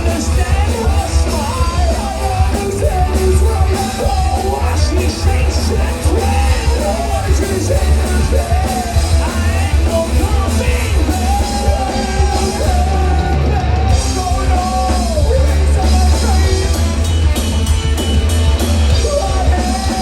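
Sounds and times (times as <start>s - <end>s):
person singing: 0.0s - 17.4s, 18.9s - 20.0s
live rock band: 0.0s - 20.0s.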